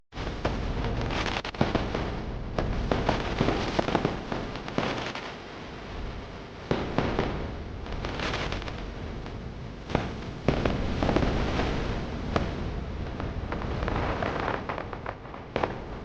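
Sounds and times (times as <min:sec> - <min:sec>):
sharp pops and bangs: 0:00.2 - 0:05.5, 0:06.6 - 0:16.0
low rumble: 0:00.2 - 0:16.0.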